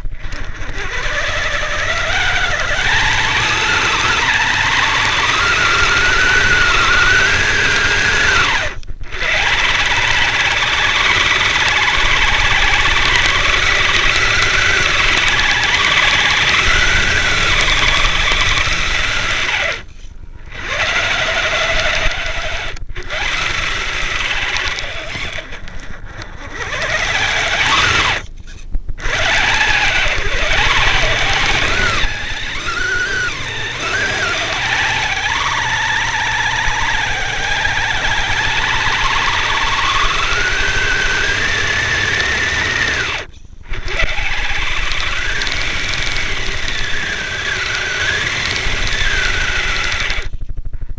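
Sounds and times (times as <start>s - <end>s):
electric motor whining: 0.0s - 50.9s.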